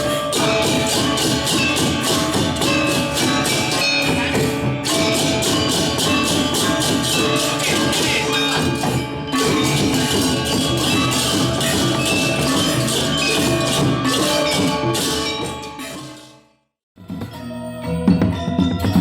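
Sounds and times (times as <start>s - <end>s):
jangling cymbal-like strikes: 0.0s - 16.4s
ringing metallophones: 0.0s - 16.5s.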